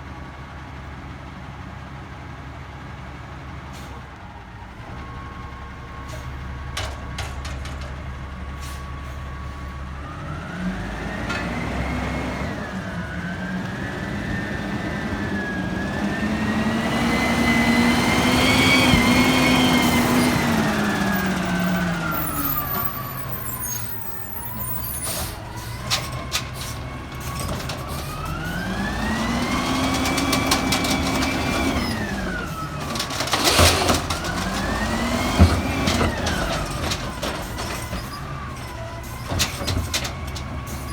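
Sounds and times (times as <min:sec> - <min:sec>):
diesel engine idling and revving: 0:00.0 - 0:40.9.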